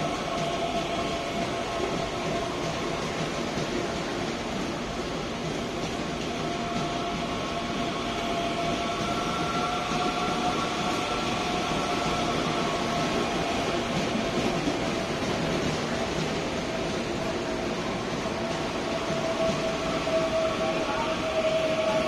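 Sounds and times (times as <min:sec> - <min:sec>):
electric whine of train: 0:00.0 - 0:22.0
train wheels rumbling on rail: 0:00.0 - 0:22.0.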